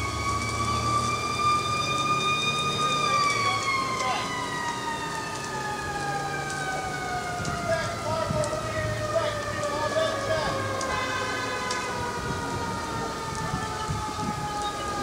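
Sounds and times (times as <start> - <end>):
emergency vehicle siren: 0.0 - 15.0.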